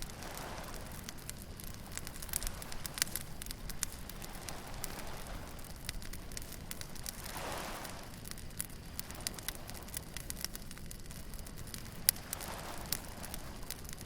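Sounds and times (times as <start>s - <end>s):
bonfire crackling and popping: 0.0s - 14.0s
wave washing on shore: 0.0s - 14.0s.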